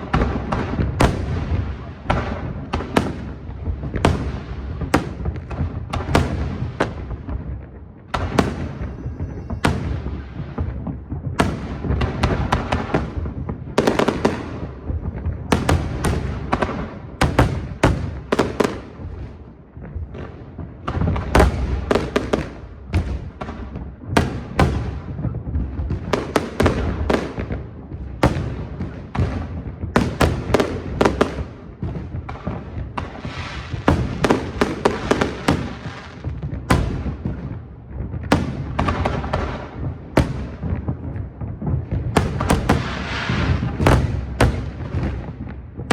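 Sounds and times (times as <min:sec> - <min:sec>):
distant firework bursts rumbling: 0:00.0 - 0:45.9
firework bangs and crackles: 0:00.0 - 0:45.9.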